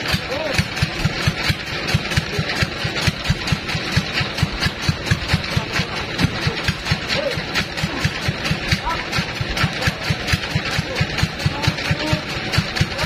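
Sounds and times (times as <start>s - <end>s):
engine idling with regular thudding: 0.0s - 13.0s.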